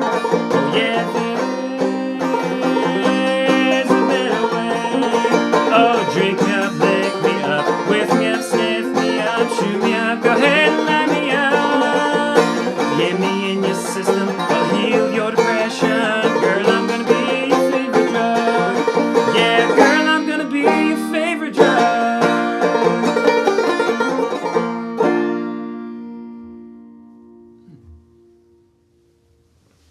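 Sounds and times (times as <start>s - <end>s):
bluegrass banjo with band: 0.0s - 26.0s.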